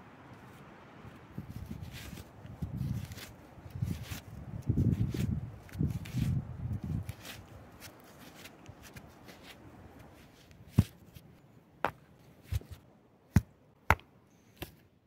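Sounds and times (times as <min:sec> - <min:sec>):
light rustling and handling: 0:00.3 - 0:14.9.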